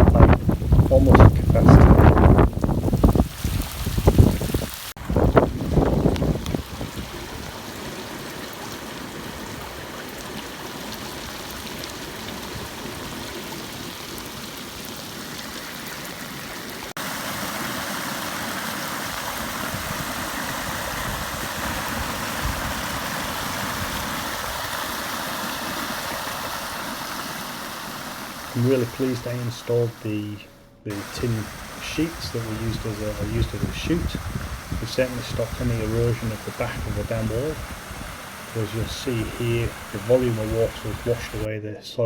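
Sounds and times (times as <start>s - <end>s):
water rushing from pipe: 0.0s - 41.5s.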